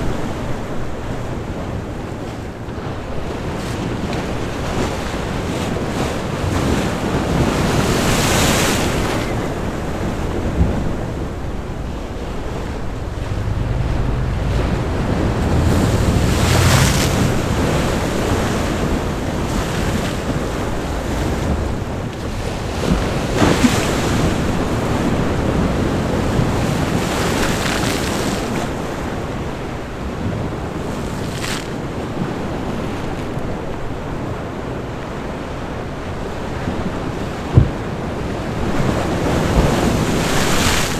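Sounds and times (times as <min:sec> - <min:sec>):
waves breaking against rocks: 0:00.0 - 0:40.9.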